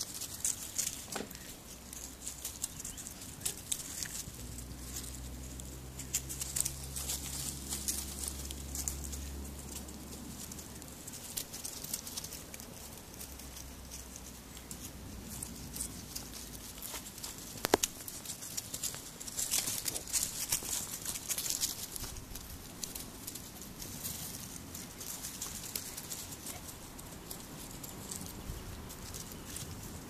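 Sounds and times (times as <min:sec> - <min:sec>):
paws scampering through dry leaves: 0:00.0 - 0:30.0.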